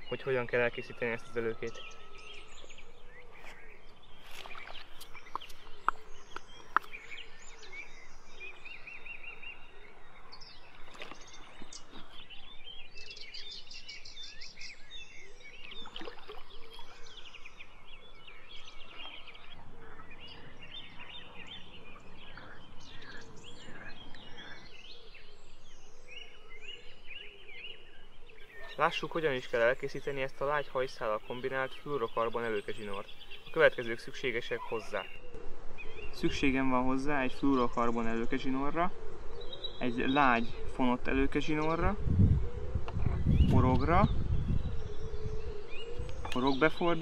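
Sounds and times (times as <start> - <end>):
songbirds chirping and trilling: 0.0 - 47.0.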